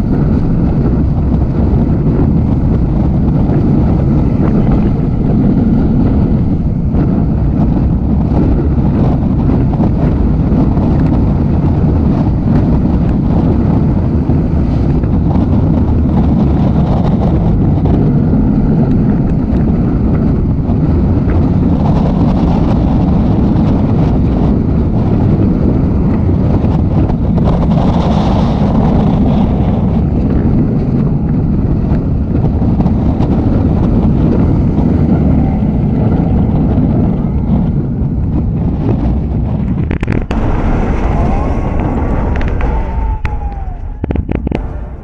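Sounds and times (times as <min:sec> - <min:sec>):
roller coaster track rumble: 0:00.0 - 0:45.0
wind rush on microphone: 0:00.0 - 0:45.0.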